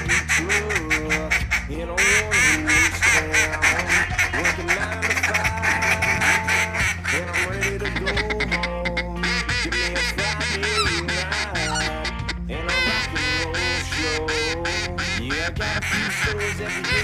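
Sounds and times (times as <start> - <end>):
background music with bass line: 0.0 - 17.0
duck quacks: 0.0 - 17.0.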